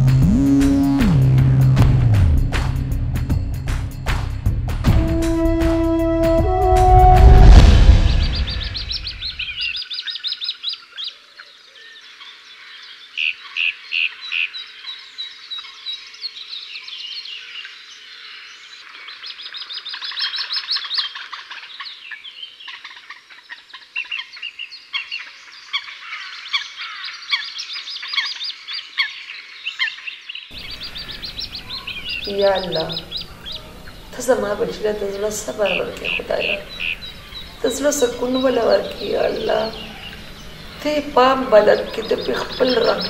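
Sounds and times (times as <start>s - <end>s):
small birds chirping and trilling: 8.1s - 43.0s.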